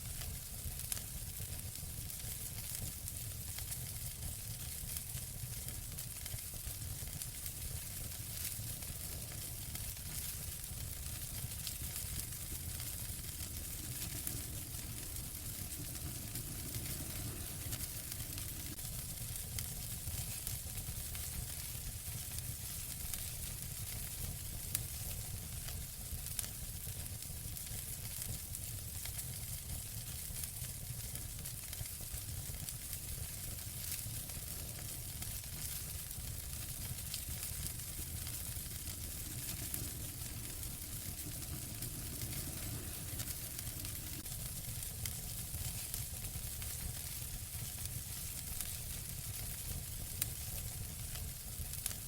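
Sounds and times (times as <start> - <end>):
wood fire crackling: 0.0 - 52.0
sharp fire pops: 1.7 - 26.9, 27.6 - 52.0.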